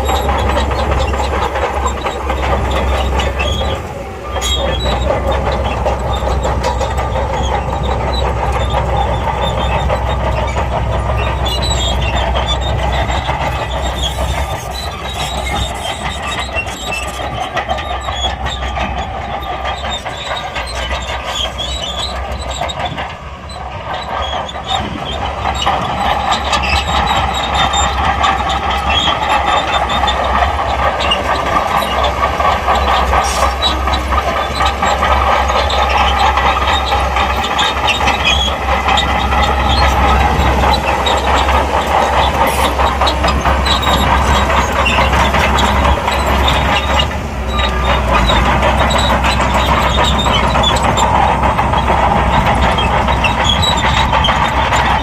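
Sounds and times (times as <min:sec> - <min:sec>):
bulldozer engine rumbling: 0:00.0 - 0:55.0
steel tracks clattering: 0:00.0 - 0:55.0.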